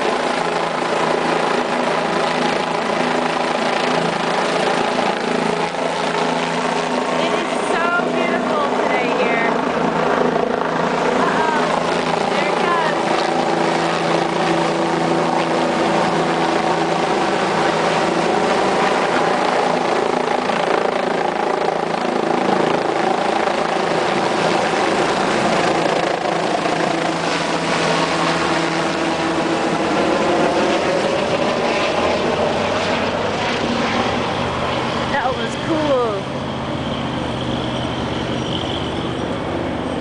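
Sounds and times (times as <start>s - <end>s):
helicopter engine and rotor: 0.0s - 40.0s.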